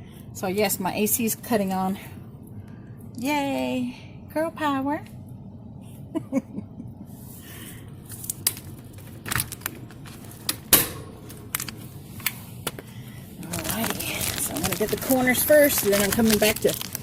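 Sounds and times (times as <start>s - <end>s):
air conditioner hum: 0.0s - 17.0s.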